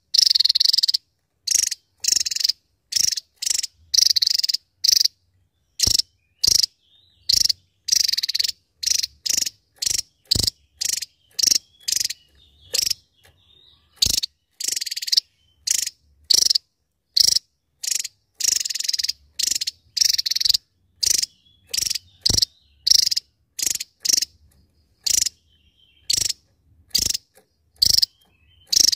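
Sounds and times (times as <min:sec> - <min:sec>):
bird singing high bursts and trills: 0:00.0 - 0:28.9.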